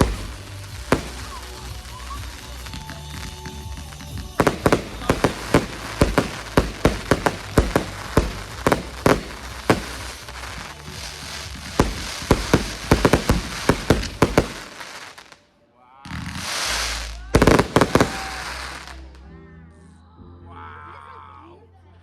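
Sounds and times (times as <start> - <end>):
fireworks bangs: 0.0 - 15.4, 16.1 - 19.1
faint music: 0.0 - 22.0.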